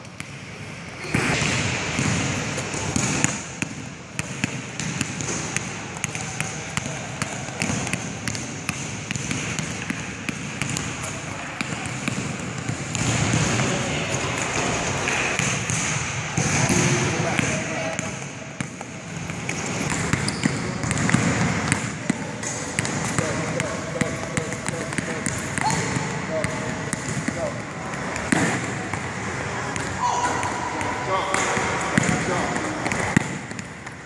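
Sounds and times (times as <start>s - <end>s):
basketball bouncing on wooden floor: 1.4s - 11.0s, 11.6s - 29.0s, 29.8s - 34.0s.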